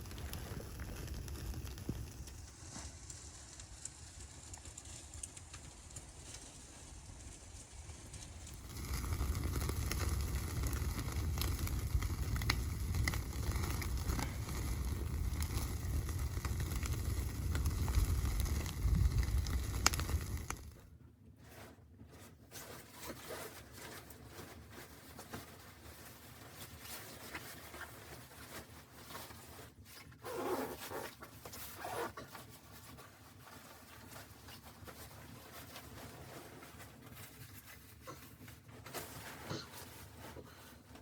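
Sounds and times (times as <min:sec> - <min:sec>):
rustling and handling noises: 0:00.0 - 0:41.0.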